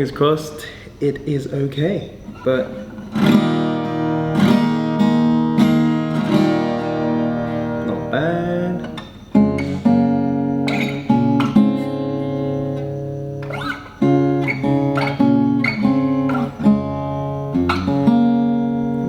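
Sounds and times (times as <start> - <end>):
acoustic guitar chords ringing: 1.2 - 19.0.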